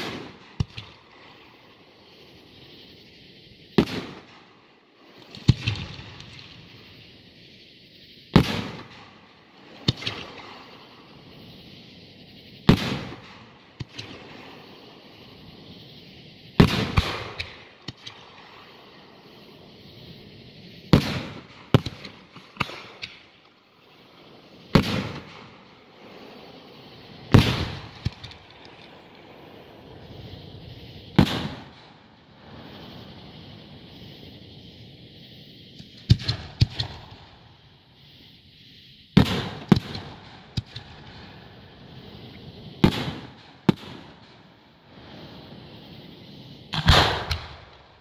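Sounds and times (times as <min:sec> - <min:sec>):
fireworks banging: 0:00.0 - 0:48.0.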